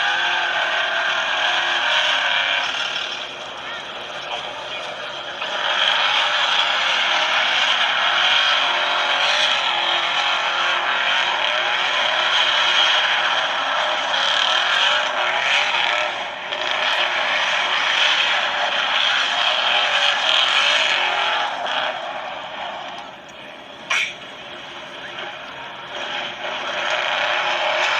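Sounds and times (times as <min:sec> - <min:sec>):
car engine running: 0:00.0 - 0:27.9.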